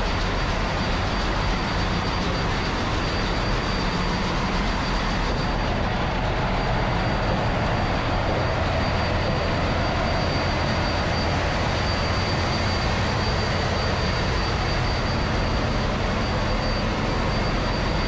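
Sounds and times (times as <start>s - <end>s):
engine room machinery roar: 0.0s - 18.0s
high machinery whine: 0.0s - 18.0s.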